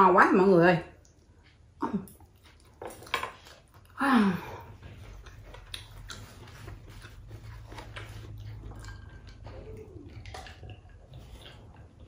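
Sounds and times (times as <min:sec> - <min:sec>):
soft chewing: 0:00.9 - 0:12.0.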